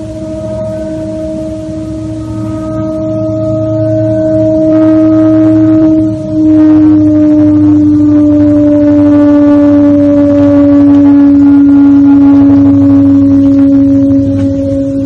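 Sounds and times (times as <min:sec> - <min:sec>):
loud horn-like drone: 0:00.0 - 0:15.0
low hum: 0:00.0 - 0:15.0.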